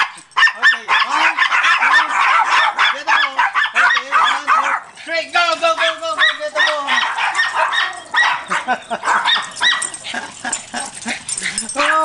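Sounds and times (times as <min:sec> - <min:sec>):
small dogs yapping: 0:00.0 - 0:05.1, 0:05.7 - 0:12.0.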